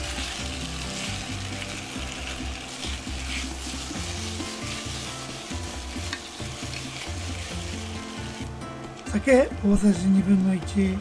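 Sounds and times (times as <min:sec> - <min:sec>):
chopsticks stirring food: 0:00.0 - 0:09.2
food sizzling in a frying pan: 0:00.0 - 0:09.2
background music: 0:00.0 - 0:11.0.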